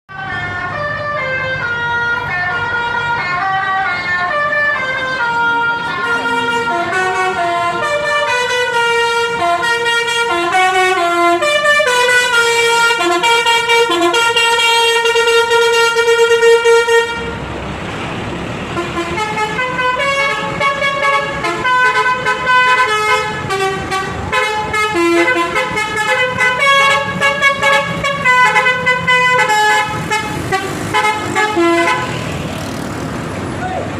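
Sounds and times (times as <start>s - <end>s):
musical bus horn melodies: 0.1s - 17.4s, 18.7s - 32.4s.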